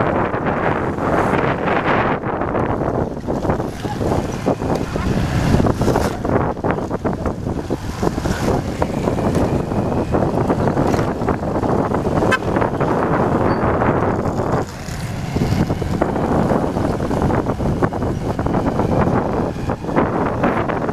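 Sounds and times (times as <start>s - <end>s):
vehicle engine running: 0.0s - 20.9s
wind buffeting microphone: 0.0s - 20.9s.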